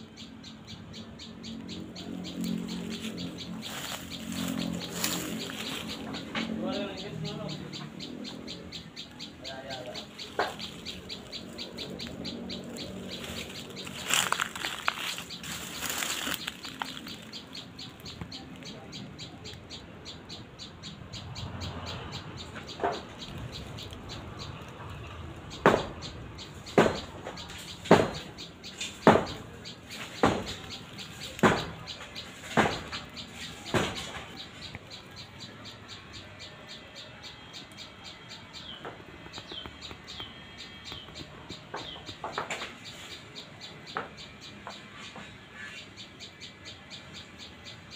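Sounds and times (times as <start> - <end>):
high ticking bird chirps: 0.0 - 47.9
sharp bird calls: 0.0 - 47.9.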